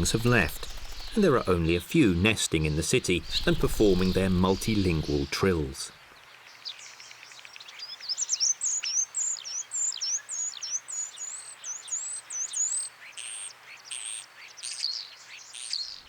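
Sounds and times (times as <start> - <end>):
starling singing whistles and trills: 0.0 - 1.9, 2.6 - 5.9, 6.7 - 16.0.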